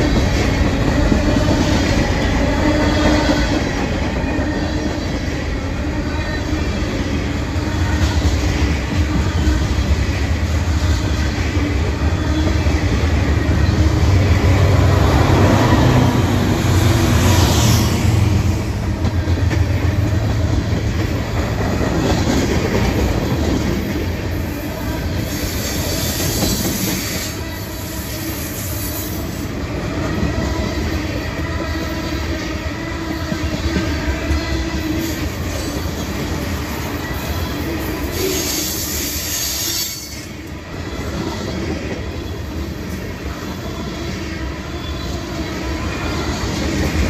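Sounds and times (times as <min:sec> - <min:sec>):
freight train wheels rumbling: 0:00.0 - 0:47.0.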